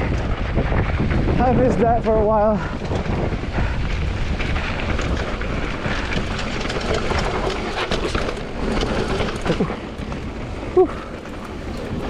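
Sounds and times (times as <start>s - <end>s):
bike rattling: 0.0s - 12.0s
tyres rolling on rock: 0.0s - 12.0s
wind noise on microphone: 0.0s - 12.0s.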